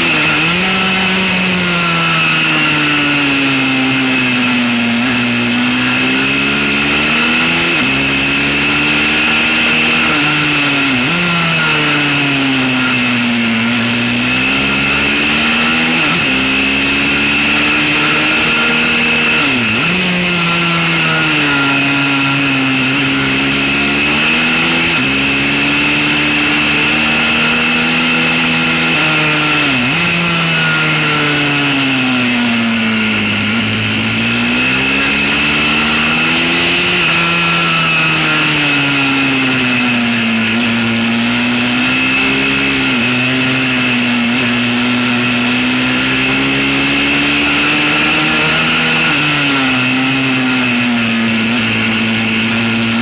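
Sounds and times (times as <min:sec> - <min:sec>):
small motorbike engine revving: 0:00.0 - 0:53.0.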